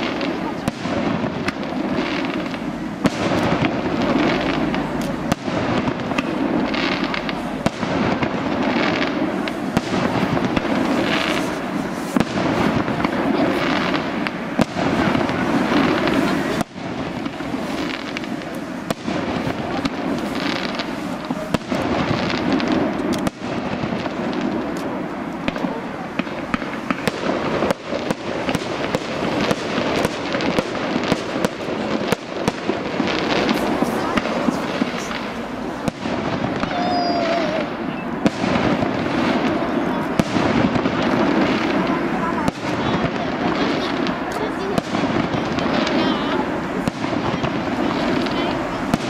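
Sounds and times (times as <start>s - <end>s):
fireworks crackling and popping: 0.0s - 49.0s.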